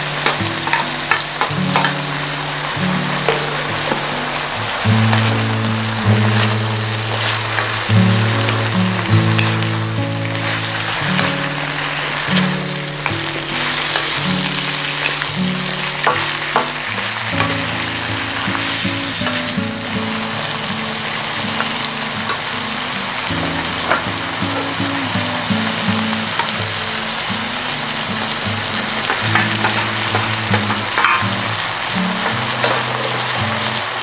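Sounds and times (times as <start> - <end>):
food sizzling in a wok: 0.0 - 34.0
soft background music: 0.0 - 34.0.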